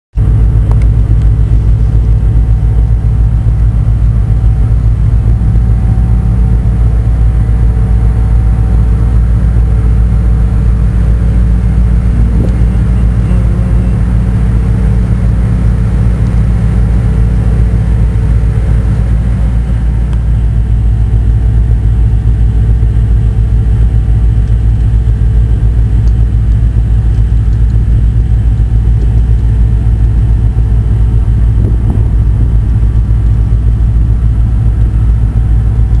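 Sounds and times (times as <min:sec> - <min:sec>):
diesel engines rumbling: 0:00.2 - 0:36.0.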